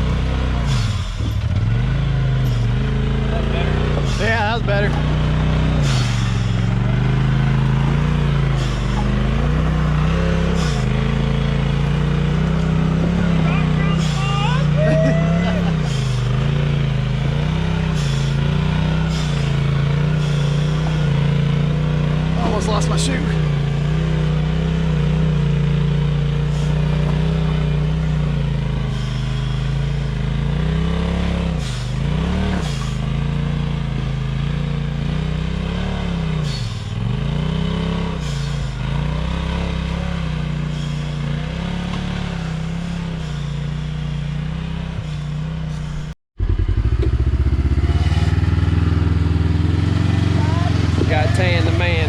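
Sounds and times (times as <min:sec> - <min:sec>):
low pulsing engine note: 0:00.0 - 0:52.0
utility vehicle engine running: 0:00.0 - 0:52.0.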